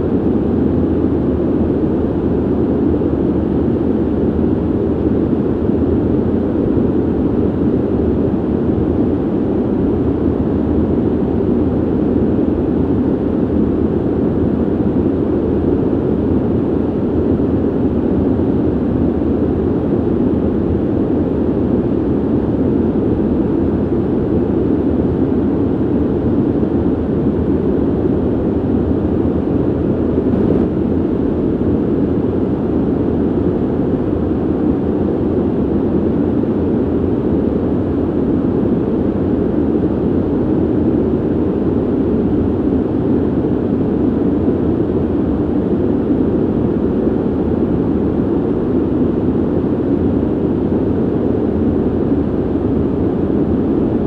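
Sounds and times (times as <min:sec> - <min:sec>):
ventilation air rushing: 0:00.0 - 0:54.0.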